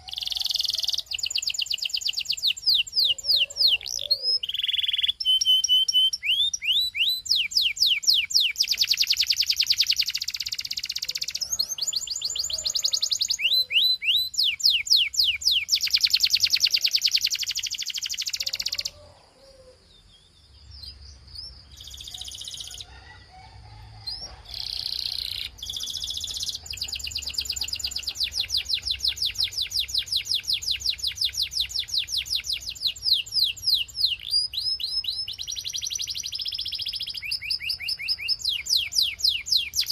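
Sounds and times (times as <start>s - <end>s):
canary singing trills: 0.0s - 23.2s, 24.0s - 39.9s.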